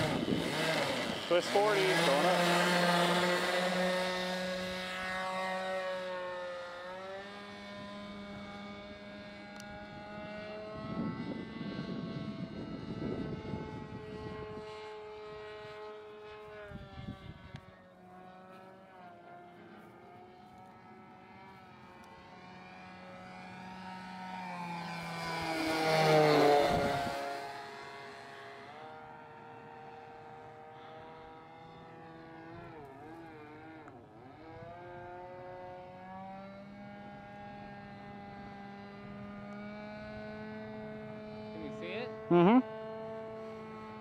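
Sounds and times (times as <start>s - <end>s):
model plane engine flying past: 0.0s - 44.0s.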